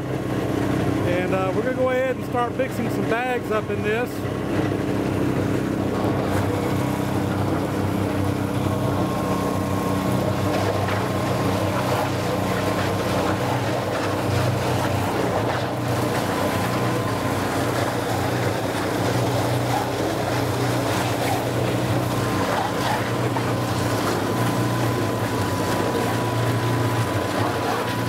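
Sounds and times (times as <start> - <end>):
small gasoline engine running: 0.0 - 28.0.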